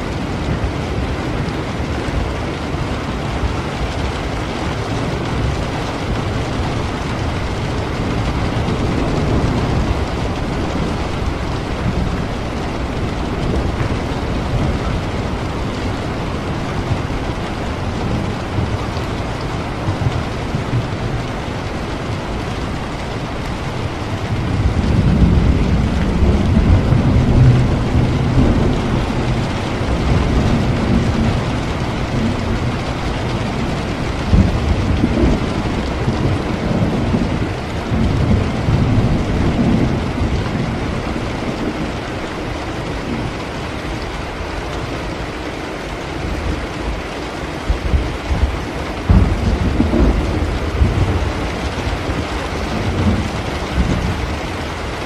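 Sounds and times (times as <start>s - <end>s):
steady rain: 0.0s - 55.0s
rolling thunder: 0.4s - 45.2s, 47.6s - 55.0s.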